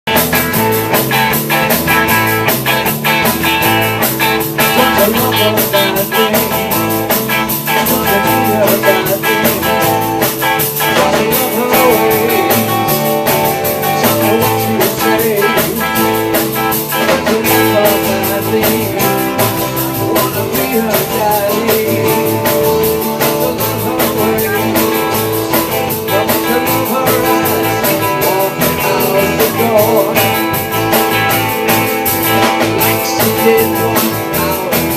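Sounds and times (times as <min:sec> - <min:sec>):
rock band playing: 0:00.0 - 0:34.9.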